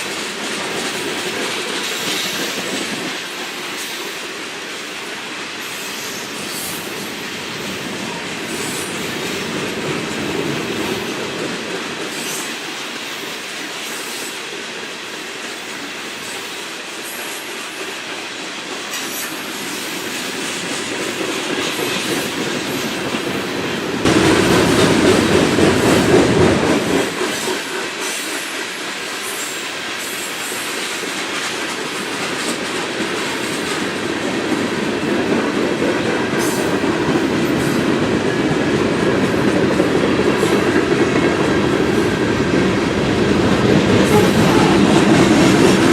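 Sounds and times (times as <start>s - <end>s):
train wheels clicking over rail joints: 0.0s - 45.9s.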